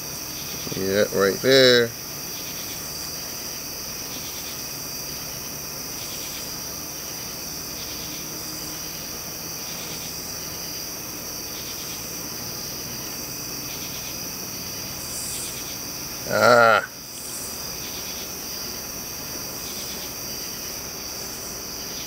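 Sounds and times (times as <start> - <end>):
cricket trilling: 0.0 - 22.0
pulsing insect chirp: 0.0 - 22.0.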